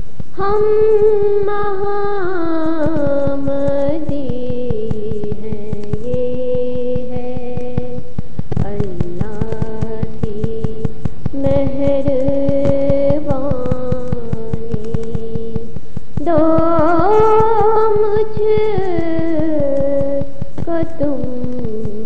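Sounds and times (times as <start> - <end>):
fast ticking pulse: 0.0 - 22.0
wordless sung melody: 0.0 - 22.0.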